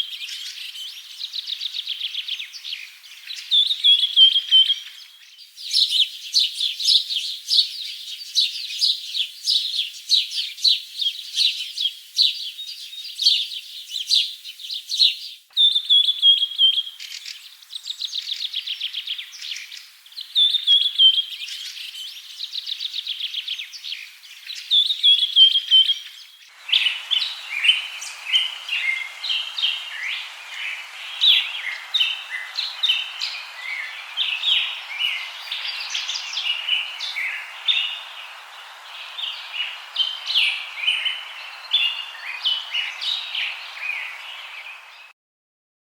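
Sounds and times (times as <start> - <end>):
songbirds chirping: 0.0 - 45.1
steady background hiss: 0.0 - 45.1.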